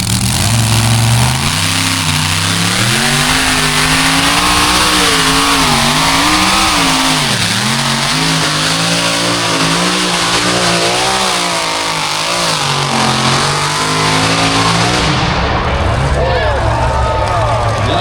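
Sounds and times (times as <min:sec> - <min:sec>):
truck engine under hard throttle: 0:00.0 - 0:18.0.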